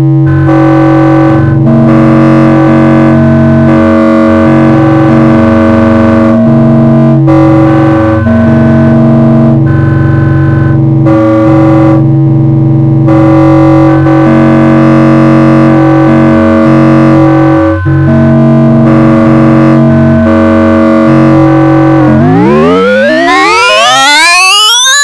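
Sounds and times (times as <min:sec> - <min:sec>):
distorted synthesizer tones: 0:00.2 - 0:12.1, 0:13.0 - 0:25.0.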